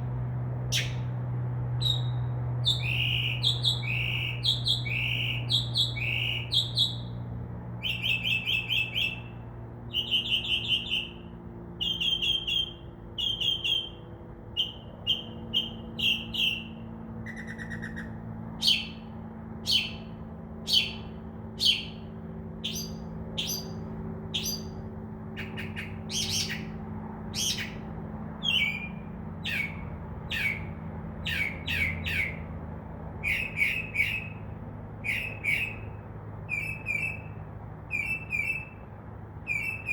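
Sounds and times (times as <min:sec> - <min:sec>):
steady low hum: 0:00.0 - 0:39.9
mockingbird singing: 0:00.7 - 0:01.1, 0:01.8 - 0:07.1, 0:07.8 - 0:09.3, 0:09.9 - 0:32.5, 0:33.2 - 0:38.8, 0:39.5 - 0:39.9.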